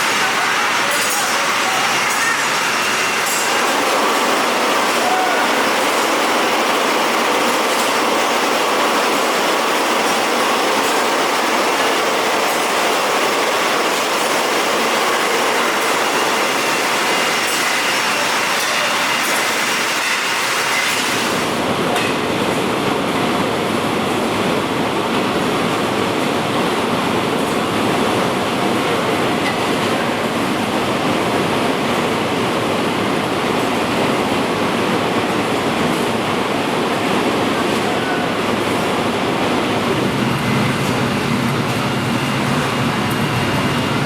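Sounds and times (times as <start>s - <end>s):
machinery rumble and clatter: 0.0s - 44.0s.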